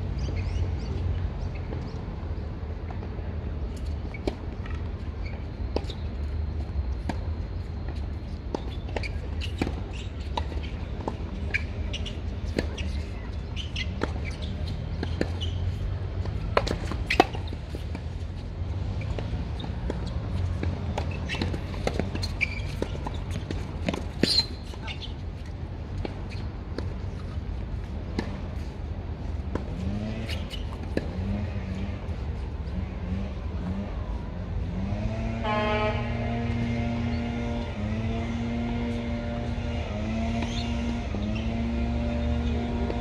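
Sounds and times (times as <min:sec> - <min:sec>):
tennis balls struck and bouncing: 0:02.8 - 0:34.2, 0:36.2 - 0:43.0.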